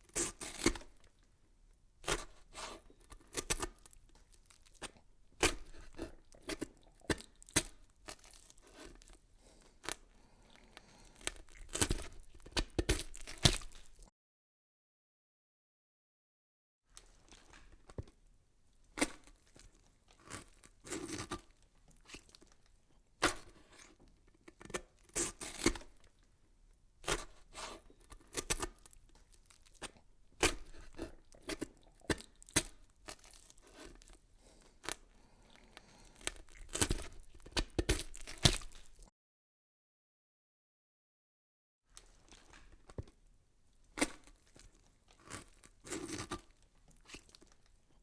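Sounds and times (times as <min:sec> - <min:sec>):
crackling and crinkling: 0:00.0 - 0:01.3, 0:02.1 - 0:14.1, 0:16.9 - 0:26.3, 0:27.0 - 0:39.1, 0:41.9 - 0:48.0.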